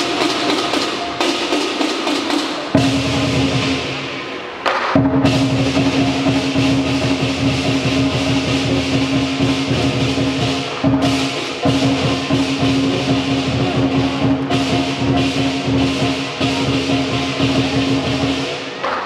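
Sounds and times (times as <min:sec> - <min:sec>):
big drum beaten rapidly: 0:00.0 - 0:19.0
clashing cymbals: 0:00.0 - 0:19.0.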